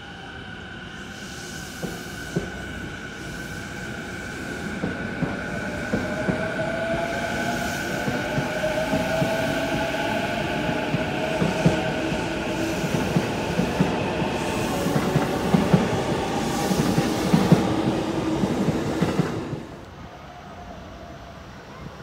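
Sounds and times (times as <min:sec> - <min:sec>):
electric train rumble: 0:00.0 - 0:21.6.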